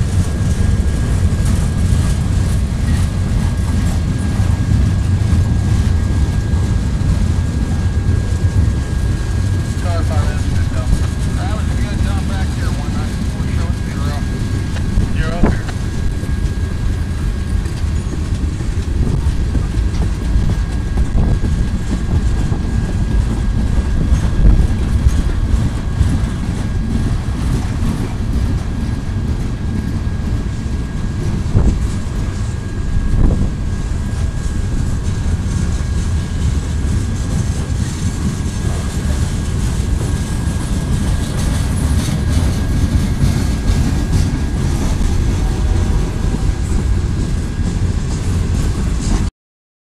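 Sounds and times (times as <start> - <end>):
freight train rumbling past: 0.0 - 49.3
wheels clacking over rail joints: 0.0 - 49.3.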